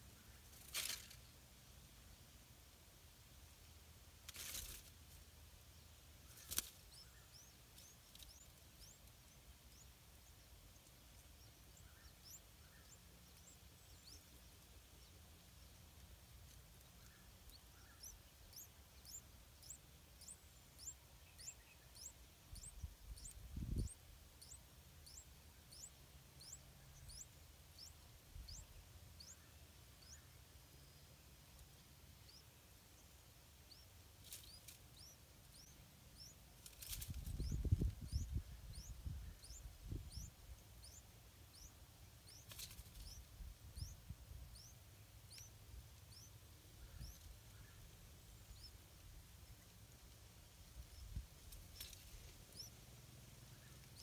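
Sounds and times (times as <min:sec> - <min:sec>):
nestlings begging calls: 0:05.7 - 0:54.0.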